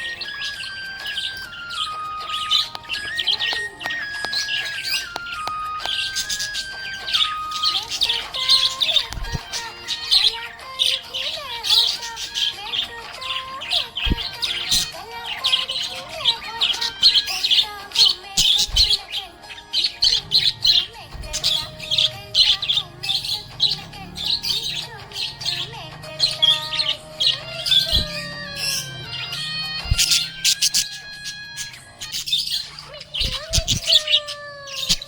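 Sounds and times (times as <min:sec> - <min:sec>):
background music: 0:00.0 - 0:35.0
budgerigars chirping and warbling: 0:00.0 - 0:35.0.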